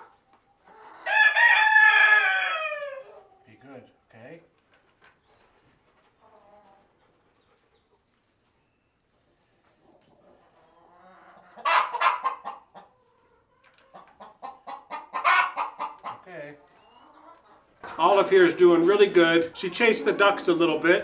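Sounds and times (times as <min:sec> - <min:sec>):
hens clucking and squawking: 0:00.0 - 0:03.5, 0:04.7 - 0:08.2, 0:09.3 - 0:21.0.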